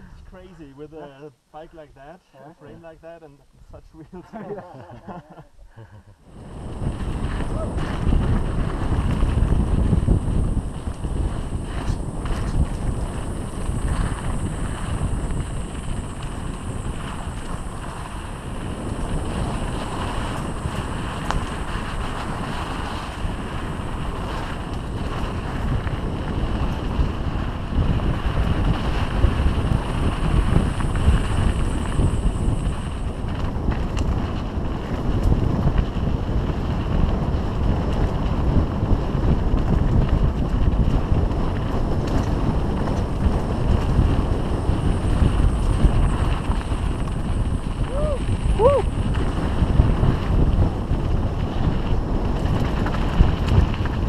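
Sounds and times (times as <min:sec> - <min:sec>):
wind buffeting microphone: 0:00.0 - 0:54.0
bike tyres rumbling on trail: 0:05.8 - 0:54.0.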